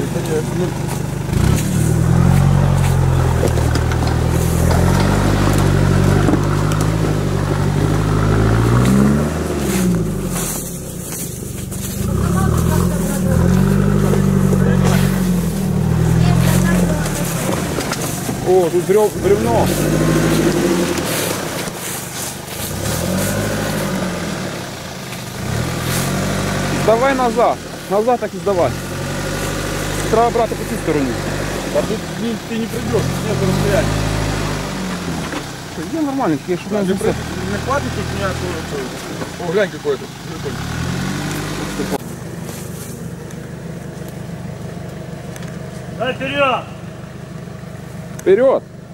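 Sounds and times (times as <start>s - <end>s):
engine pulling at low revs: 0.0s - 48.9s.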